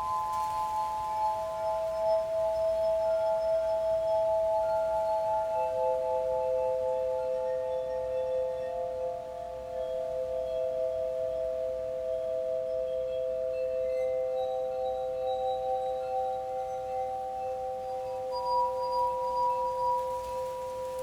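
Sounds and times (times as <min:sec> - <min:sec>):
singing bowls ringing: 0:00.0 - 0:21.0.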